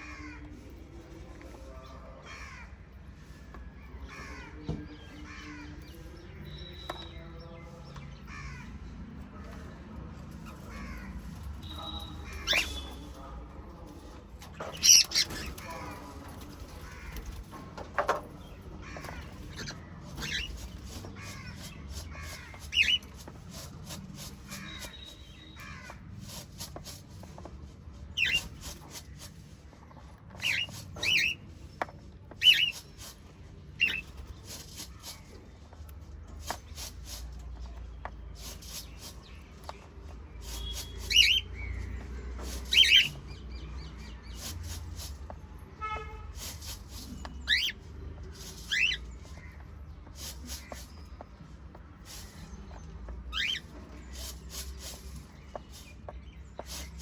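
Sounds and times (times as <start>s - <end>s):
birds chattering and warbling: 0.0s - 57.0s
birds chirping sharply: 0.0s - 57.0s.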